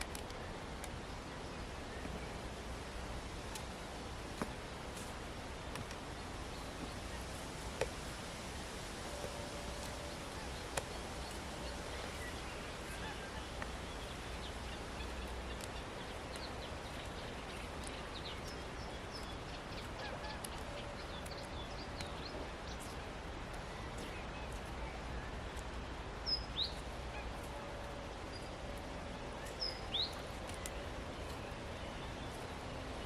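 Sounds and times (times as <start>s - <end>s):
faint drawn-out low calls: 0.0s - 33.0s
outdoor background hiss: 0.0s - 33.0s
songbirds chirping: 0.0s - 33.0s.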